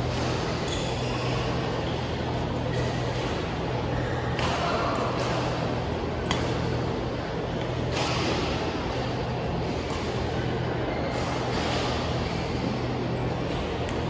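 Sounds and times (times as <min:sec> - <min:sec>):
low even hum of sports hall: 0:00.0 - 0:14.0.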